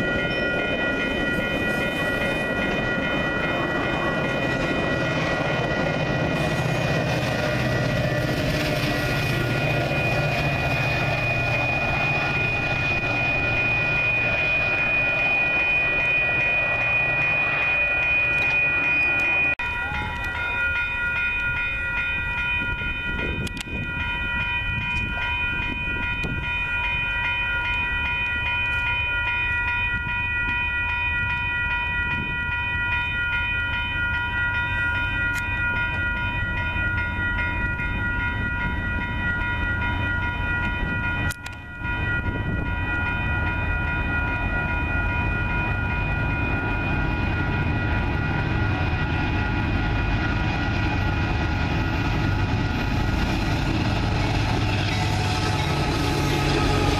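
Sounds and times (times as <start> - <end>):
low rumble of trains: 0.0 - 56.9
railroad crossing bells ringing: 0.0 - 56.9.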